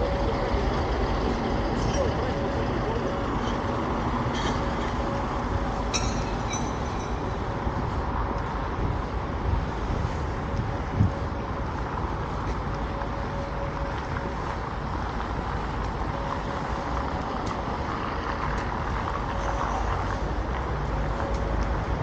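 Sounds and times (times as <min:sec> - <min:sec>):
faint engine hum: 0:00.0 - 0:22.0
rush of passing cars and trucks: 0:00.0 - 0:22.0.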